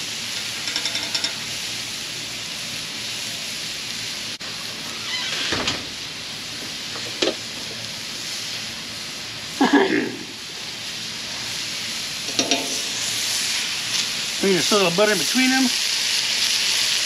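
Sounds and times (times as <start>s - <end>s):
fish sizzling on a griddle: 0.0s - 17.0s.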